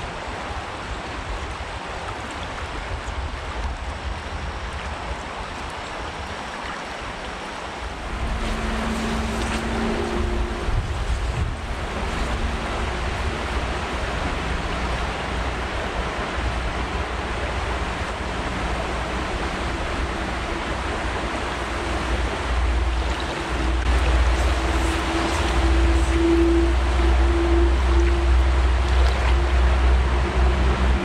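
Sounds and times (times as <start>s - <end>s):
creek running over stones: 0.0s - 31.0s
wind rumble on microphone: 0.0s - 31.0s.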